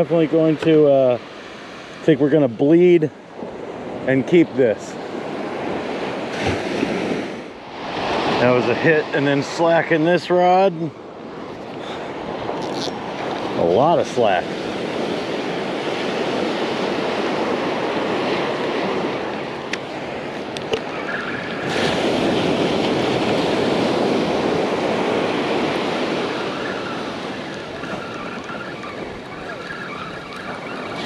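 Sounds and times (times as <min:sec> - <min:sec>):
waves washing onto beach: 0:00.0 - 0:31.0.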